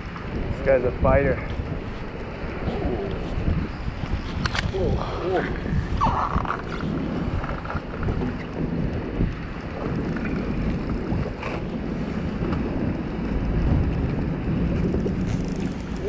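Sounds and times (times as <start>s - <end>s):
wind buffeting microphone: 0.0s - 16.0s
water lapping around boat: 1.4s - 16.0s.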